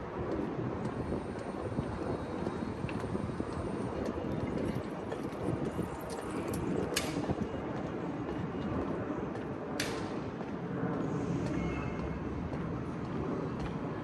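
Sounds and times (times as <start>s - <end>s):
city background noise: 0.0s - 14.0s.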